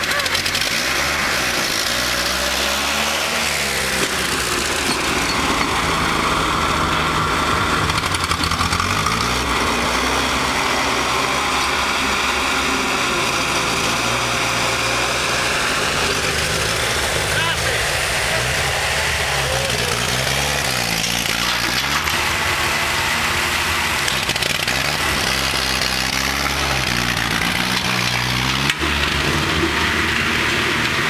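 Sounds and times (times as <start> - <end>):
tractor engine revving: 0.0 - 31.0.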